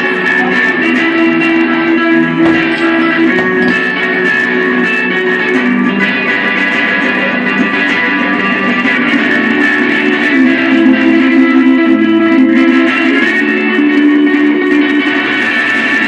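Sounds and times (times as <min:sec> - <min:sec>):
guitar jam: 0:00.0 - 0:16.0.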